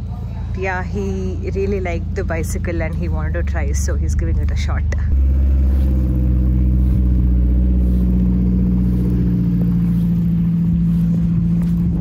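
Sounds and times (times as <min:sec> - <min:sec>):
deep rumble: 0:00.0 - 0:12.0
steady machine hum: 0:00.0 - 0:12.0.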